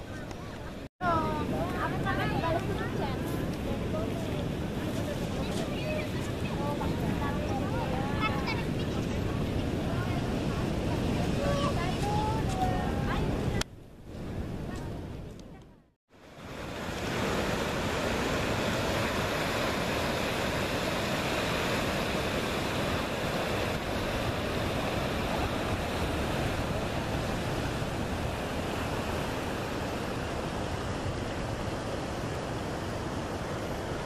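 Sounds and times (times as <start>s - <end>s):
ocean surf breaking on rocks: 0.0s - 13.6s, 16.2s - 34.0s
wind on microphone: 0.0s - 34.0s.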